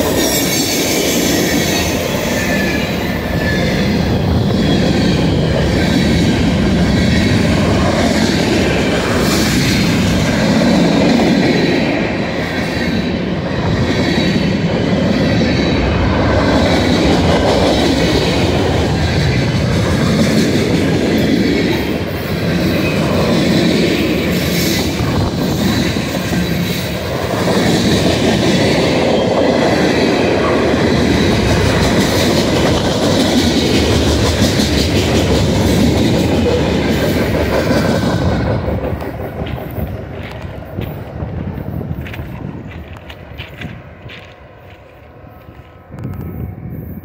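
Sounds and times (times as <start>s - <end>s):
train wheels clattering over rails: 0.0s - 44.9s.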